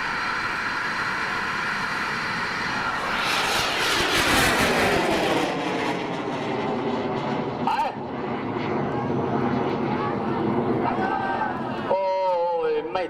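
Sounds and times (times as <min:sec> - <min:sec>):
rocket roaring: 0:00.0 - 0:11.9.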